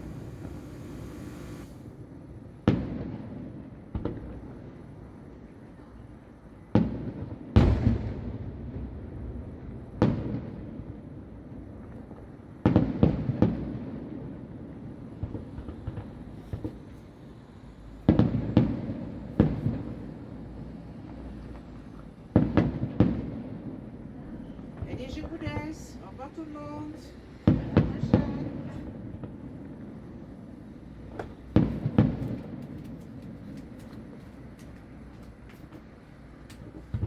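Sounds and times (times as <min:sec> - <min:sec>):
distant fireworks bangs: 0:00.0 - 0:04.8, 0:06.7 - 0:11.2, 0:11.8 - 0:17.4, 0:18.0 - 0:37.0.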